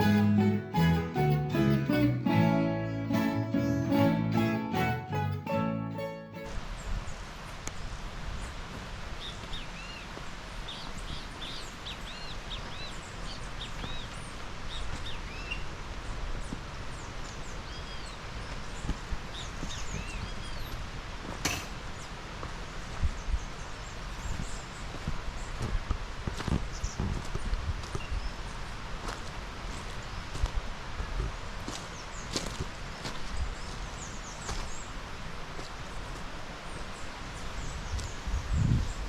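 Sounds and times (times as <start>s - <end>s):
steady outdoor hiss: 0.0s - 39.0s.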